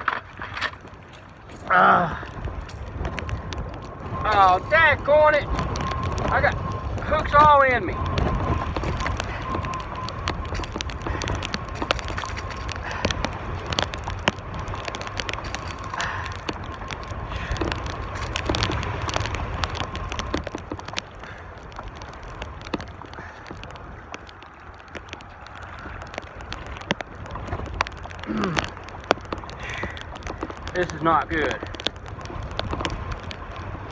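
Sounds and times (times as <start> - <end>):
handling clicks and crackles: 0.0 - 33.9
wind buffeting microphone: 0.0 - 33.9.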